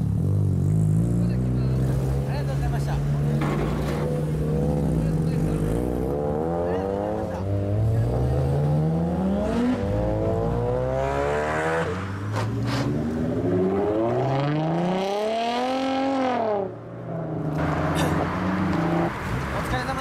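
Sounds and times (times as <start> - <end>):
engine revving: 0.0 - 16.8
car engines accelerating: 0.0 - 20.0.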